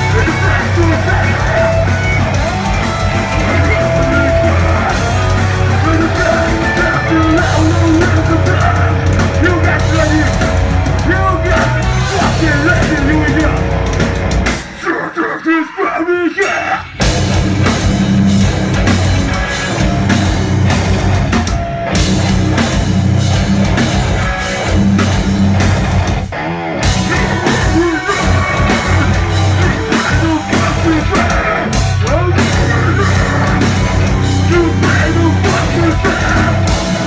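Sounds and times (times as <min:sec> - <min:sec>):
drum kit: 0:00.0 - 0:15.2, 0:16.3 - 0:37.0
heavy bass: 0:00.0 - 0:15.2, 0:16.4 - 0:37.0
distorted electric guitar: 0:00.0 - 0:37.0.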